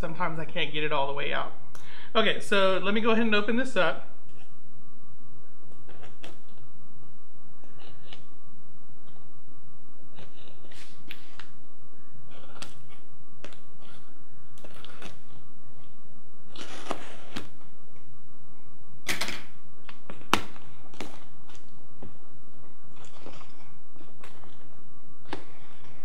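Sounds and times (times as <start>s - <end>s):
air conditioner hum: 0.0s - 26.0s.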